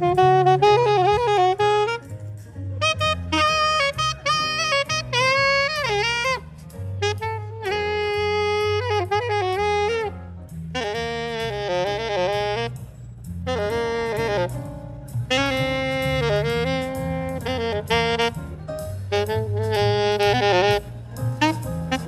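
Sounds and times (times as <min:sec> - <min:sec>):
low bass line: 0:00.0 - 0:22.0
saxophone playing jazz melody: 0:00.0 - 0:22.0.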